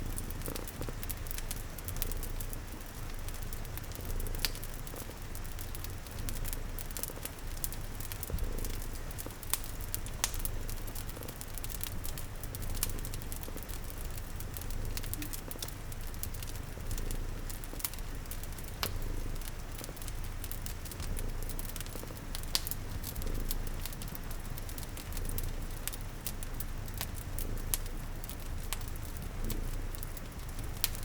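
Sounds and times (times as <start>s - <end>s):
cat purring: 0.0s - 31.0s
wood fire crackling: 0.0s - 31.0s.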